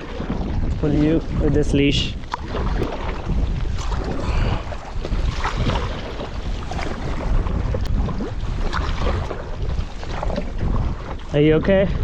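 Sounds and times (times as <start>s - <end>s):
choppy water: 0.0s - 12.0s
paddle strokes splashing: 0.0s - 12.0s
strong wind on microphone: 0.0s - 12.0s.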